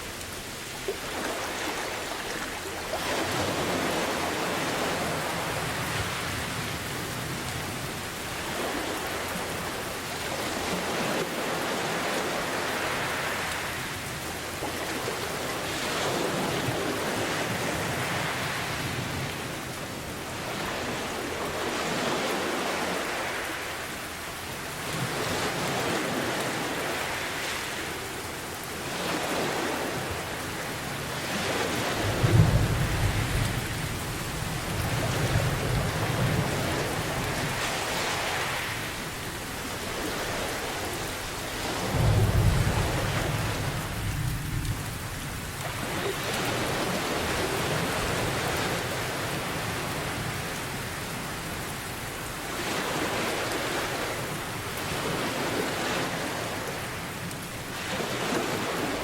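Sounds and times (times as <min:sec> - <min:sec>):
ocean waves: 0:00.0 - 0:59.0
steady rain: 0:00.0 - 0:59.0.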